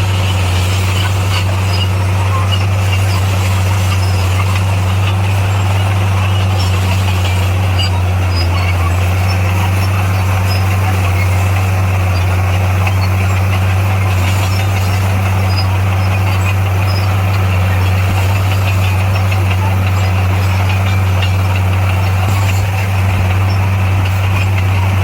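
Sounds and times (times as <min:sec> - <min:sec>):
diesel engine droning under load: 0:00.0 - 0:25.0.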